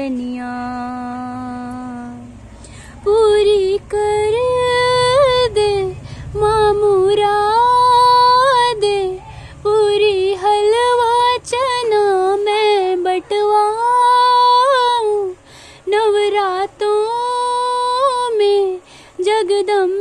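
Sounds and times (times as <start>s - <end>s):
woman singing devotional song: 0.0s - 20.0s.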